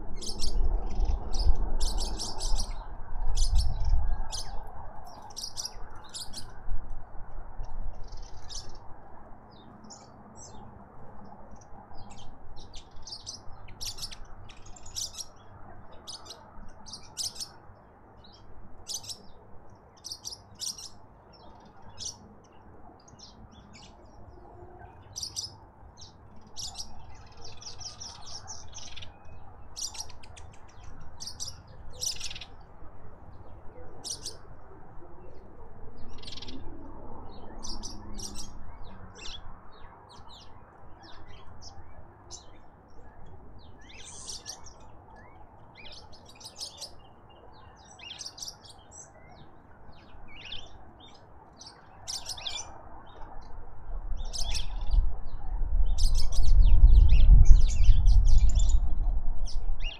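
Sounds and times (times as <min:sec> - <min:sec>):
birds chirping: 0:00.0 - 0:06.6, 0:09.5 - 0:53.6, 0:54.2 - 0:59.9.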